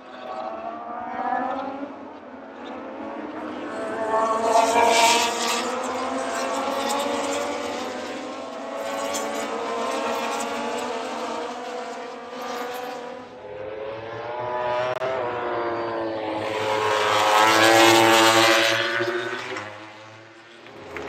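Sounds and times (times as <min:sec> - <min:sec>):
racing motorcycles passing: 0:00.0 - 0:21.0.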